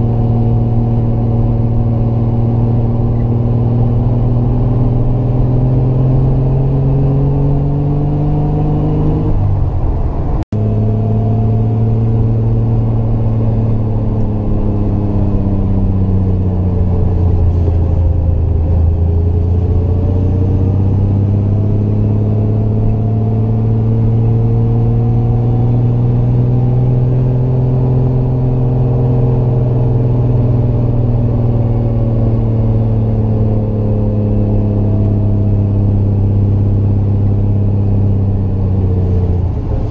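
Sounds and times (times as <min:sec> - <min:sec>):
car engine pulling uphill: 0:00.0 - 0:39.9.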